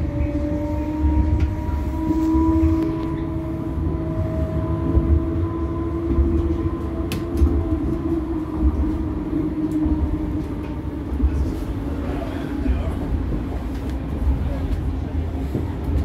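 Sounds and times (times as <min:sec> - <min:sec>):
tram wheels rumbling on track: 0:00.0 - 0:16.0.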